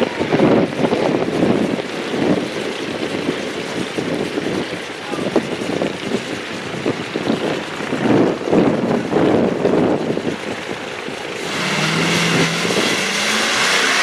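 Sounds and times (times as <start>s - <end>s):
car engine idling unevenly: 0.0s - 14.0s
wind buffeting microphone: 0.0s - 14.0s.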